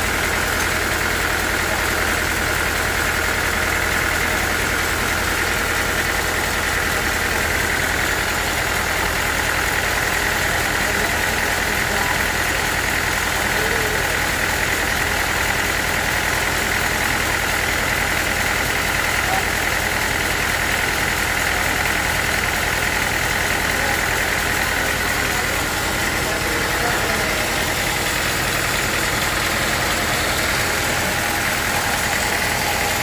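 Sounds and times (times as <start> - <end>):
sawmill machinery engine running: 0.0 - 33.0.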